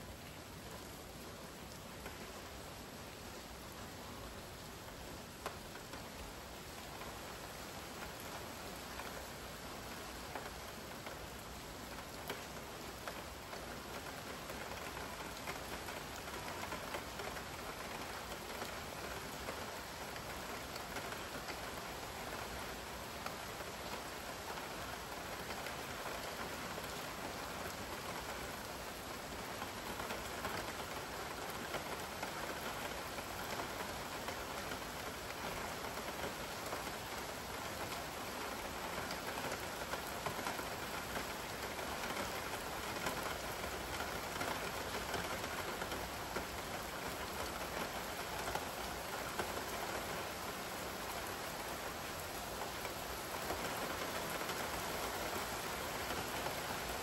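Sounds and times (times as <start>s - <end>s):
steady rain hissing: 0.0s - 57.0s.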